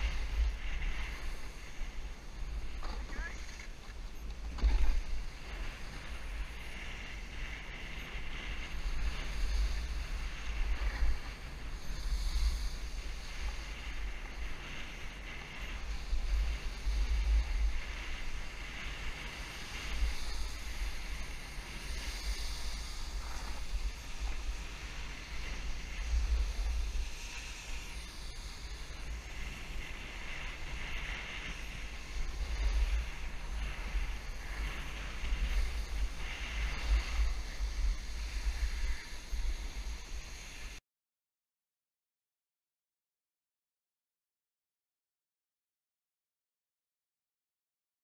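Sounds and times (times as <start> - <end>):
snowboard scraping on snow: 0.0 - 40.8
wind buffeting microphone: 0.0 - 40.8.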